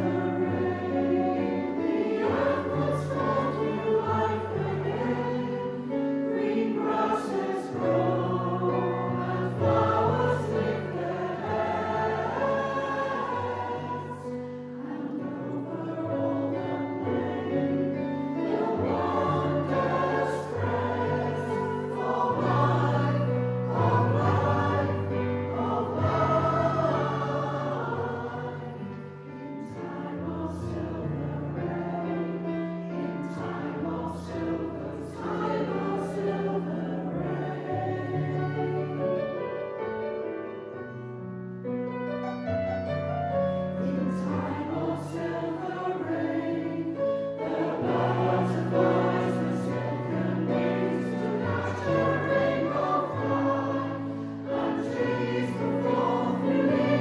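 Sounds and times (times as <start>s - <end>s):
choir singing in parts: 0.0s - 40.0s, 43.4s - 57.0s
piano accompaniment: 0.0s - 57.0s.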